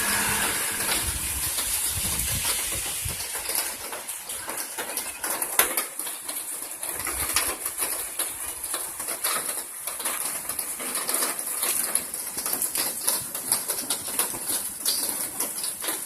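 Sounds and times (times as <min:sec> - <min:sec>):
rain hissing: 0:00.0 - 0:16.0
hailstones rattling: 0:01.1 - 0:16.0.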